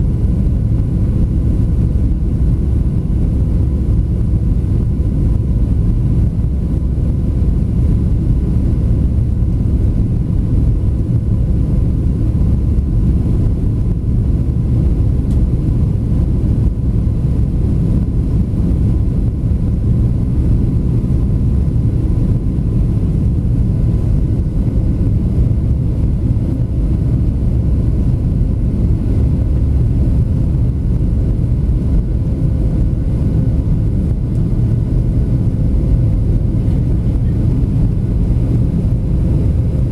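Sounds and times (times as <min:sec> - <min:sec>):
airplane cabin engine rush: 0:00.0 - 0:39.9
faint steady hum: 0:00.0 - 0:39.9.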